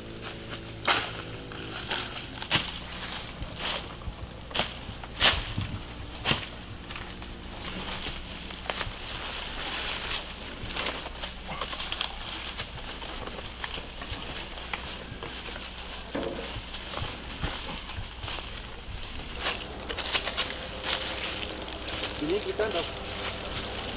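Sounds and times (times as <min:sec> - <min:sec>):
leaves and grass rustling: 0:00.0 - 0:23.9
stems and twigs snapping: 0:00.2 - 0:23.9.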